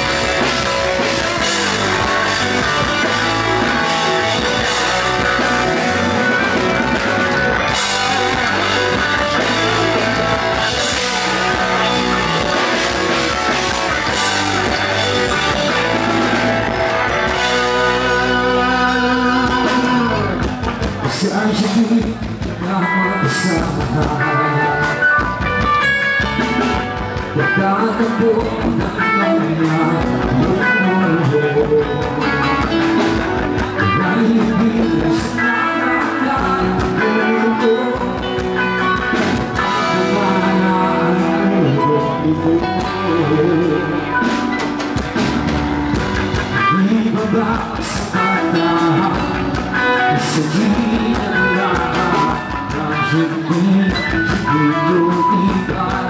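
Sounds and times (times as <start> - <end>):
man singing: 0.0 - 25.9, 26.6 - 44.7, 46.3 - 56.0
bass guitar: 0.0 - 56.0
drum kit: 0.0 - 56.0
electric guitars: 0.0 - 56.0
keyboard: 0.0 - 56.0.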